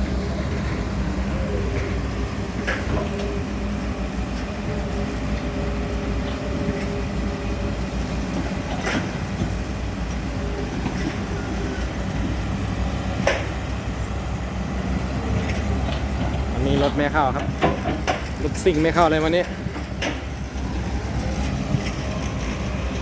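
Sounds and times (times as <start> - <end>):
diesel machinery rumbling: 0.0 - 23.0.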